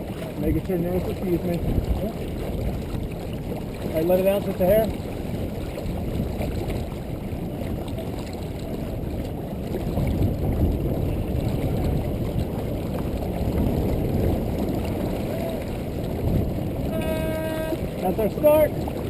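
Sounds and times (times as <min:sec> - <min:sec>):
water along hull: 0:00.0 - 0:19.0
wind on microphone: 0:00.0 - 0:19.0.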